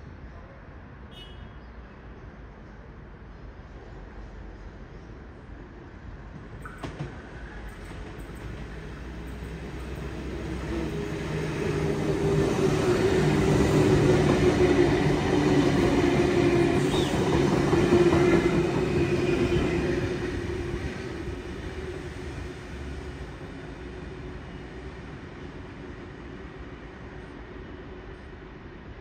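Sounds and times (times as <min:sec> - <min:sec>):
train rumble: 0:02.5 - 0:29.0.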